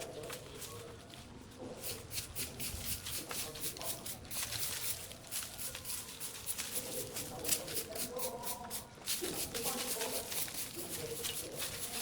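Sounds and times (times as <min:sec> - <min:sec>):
faint voices: 0:00.0 - 0:12.0.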